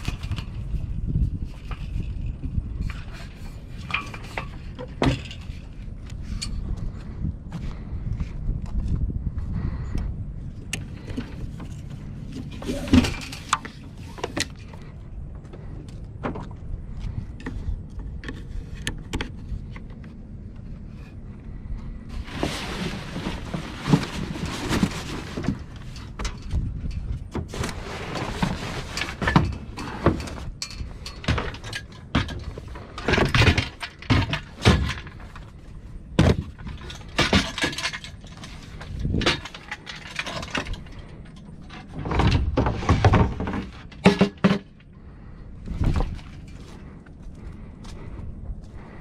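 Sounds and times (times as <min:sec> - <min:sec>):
sailboat rigging clanks and knocks: 0:00.0 - 0:06.9, 0:10.6 - 0:21.1, 0:22.1 - 0:45.0, 0:45.6 - 0:49.0.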